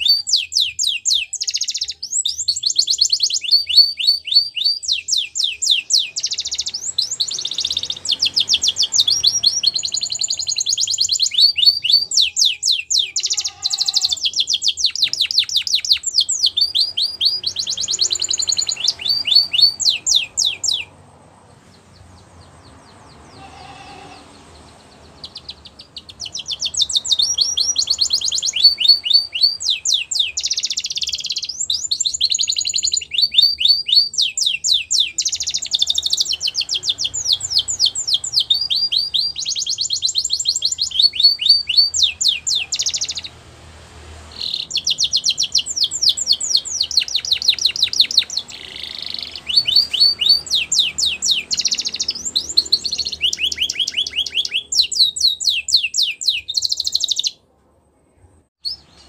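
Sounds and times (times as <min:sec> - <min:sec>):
canary singing fast trills: 0:00.0 - 0:43.5, 0:44.1 - 0:57.5, 0:58.6 - 0:59.0.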